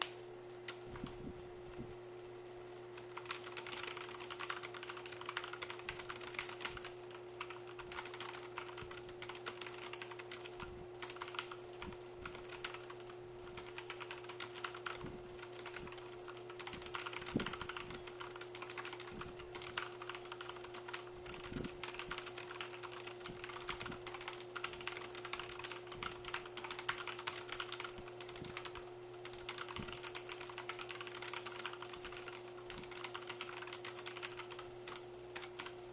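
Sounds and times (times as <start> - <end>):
fast typing on mechanical keyboard: 3.0 - 35.9.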